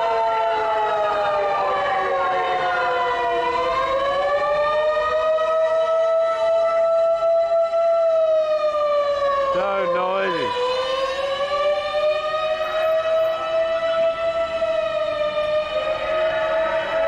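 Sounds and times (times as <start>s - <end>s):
emergency sirens wailing: 0.0s - 17.0s.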